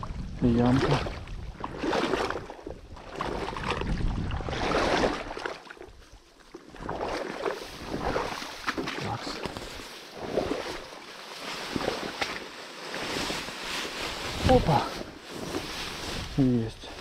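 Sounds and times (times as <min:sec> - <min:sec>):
person wading through water: 0:00.6 - 0:17.0.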